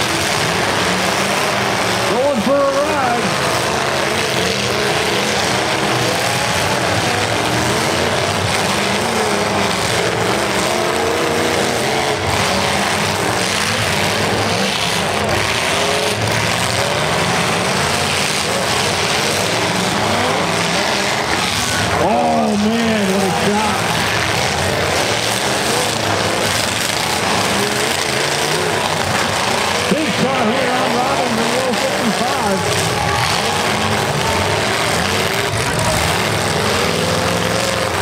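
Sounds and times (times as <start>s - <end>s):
car engines revving hard: 0.0s - 38.0s.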